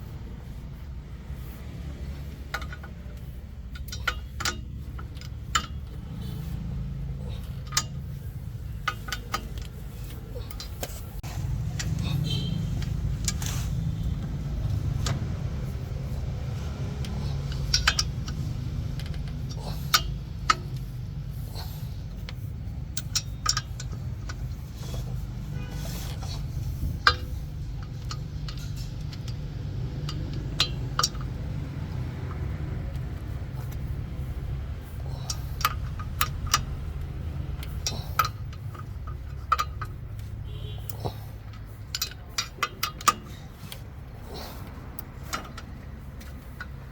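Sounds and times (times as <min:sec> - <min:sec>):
steady low hum: 0:00.0 - 0:46.9
metal tools clinking and scraping: 0:00.1 - 0:46.9.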